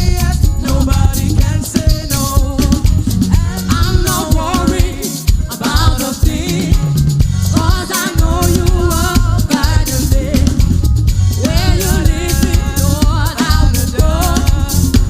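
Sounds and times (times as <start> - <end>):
gospel band music: 0.0 - 15.0
person singing: 0.0 - 15.0.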